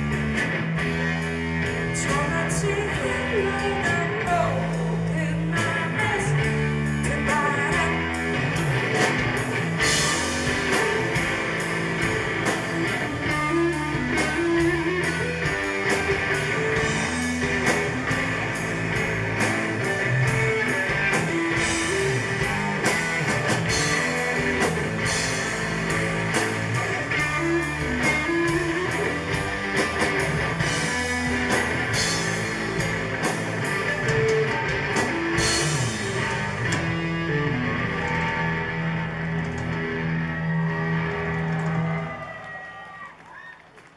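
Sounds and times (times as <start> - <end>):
drum kit: 0.0 - 42.3
bass guitar: 0.0 - 43.2
electric guitar: 0.0 - 43.5.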